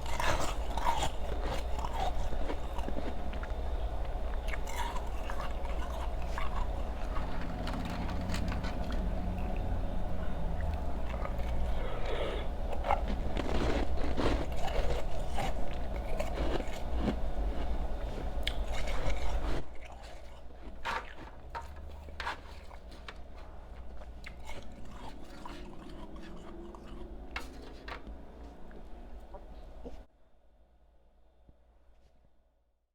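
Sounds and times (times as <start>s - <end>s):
crunching and chewing ice: 0.0s - 30.1s
steady low hum: 0.0s - 32.0s.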